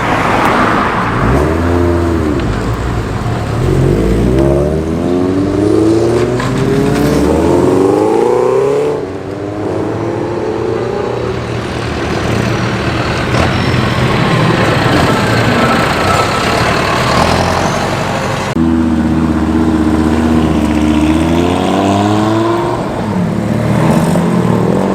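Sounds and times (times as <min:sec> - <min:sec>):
cars driving past: 0:00.0 - 0:24.9.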